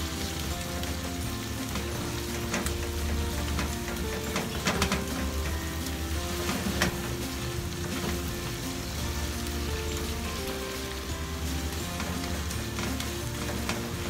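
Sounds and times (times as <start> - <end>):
meat sizzling in a frying pan: 0.0 - 14.0
spatula scraping and knocking pan: 0.0 - 14.0.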